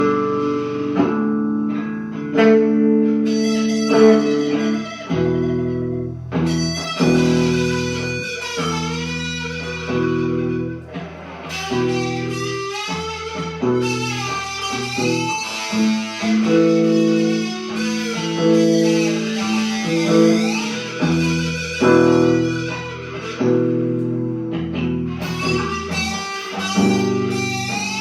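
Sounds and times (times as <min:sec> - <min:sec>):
blues guitar: 0:00.0 - 0:28.0
deeper guitar part: 0:00.0 - 0:28.0.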